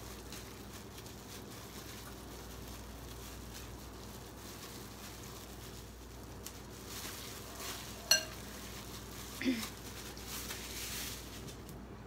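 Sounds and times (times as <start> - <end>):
gloved hands mashing rice: 0.0 - 11.8.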